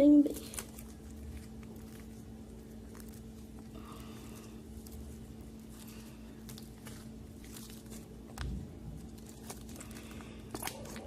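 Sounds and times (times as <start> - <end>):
slime squelching in hand: 0.2 - 11.0.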